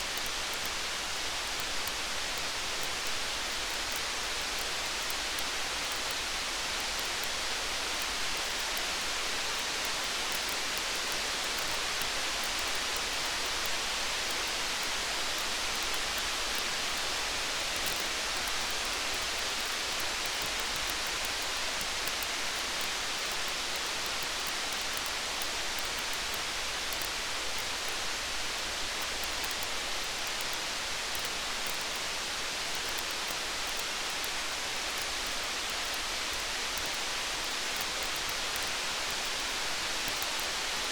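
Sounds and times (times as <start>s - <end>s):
faint campfire crackles: 0.0s - 40.9s
steady rain: 0.0s - 40.9s.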